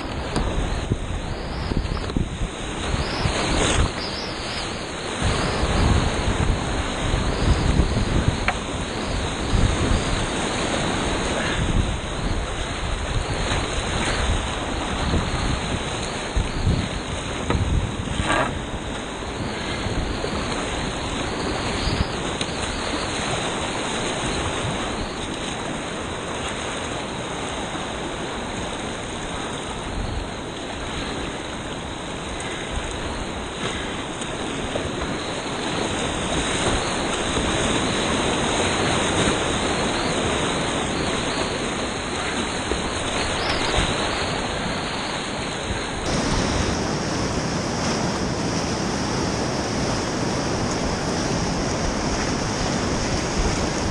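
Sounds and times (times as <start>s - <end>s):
whitewater rapids rushing: 0.0s - 53.9s.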